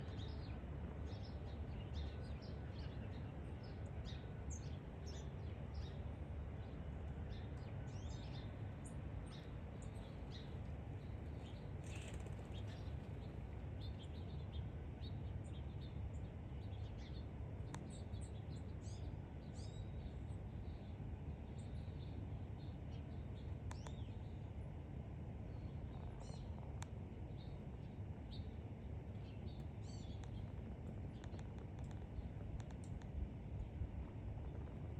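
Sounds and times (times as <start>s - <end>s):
low background rumble: 0.0s - 34.9s
songbirds chirping: 0.0s - 34.9s.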